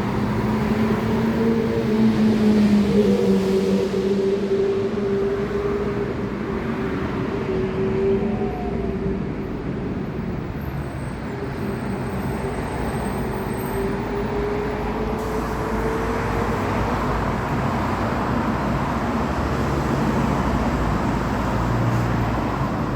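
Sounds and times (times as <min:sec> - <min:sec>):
road traffic noise: 0:00.0 - 0:22.9.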